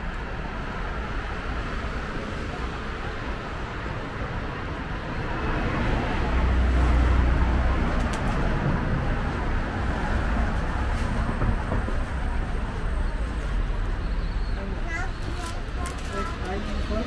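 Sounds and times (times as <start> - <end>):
large vehicle rumbling past: 0.0 - 17.0
street traffic: 0.0 - 17.0.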